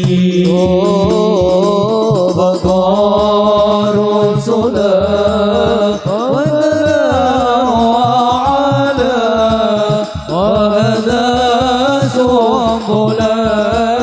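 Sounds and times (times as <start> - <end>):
frame drums played by hand: 0.0 - 14.0
men singing melismatic phrase: 0.0 - 14.0.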